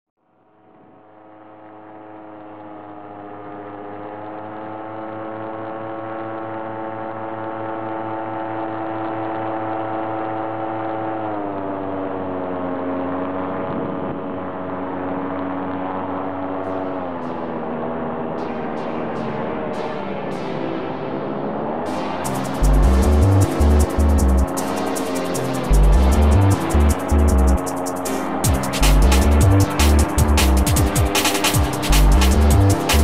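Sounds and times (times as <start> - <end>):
paramotor engine running: 0.5 - 33.0.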